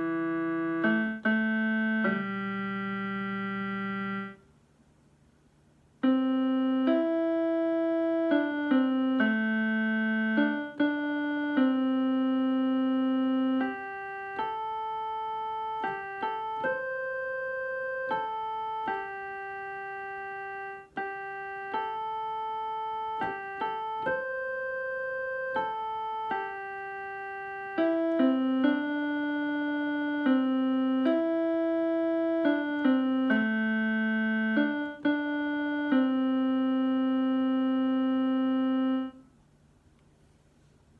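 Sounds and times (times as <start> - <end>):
electronic keyboard slow tune: 0.0 - 4.5, 6.0 - 40.7.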